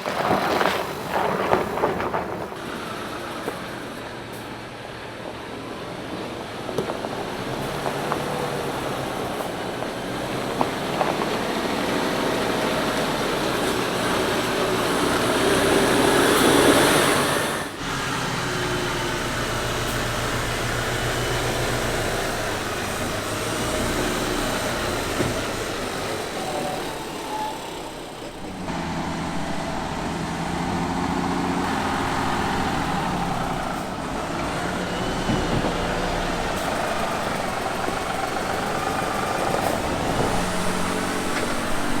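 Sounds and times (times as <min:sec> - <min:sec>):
truck diesel engine running: 0:07.1 - 0:42.0.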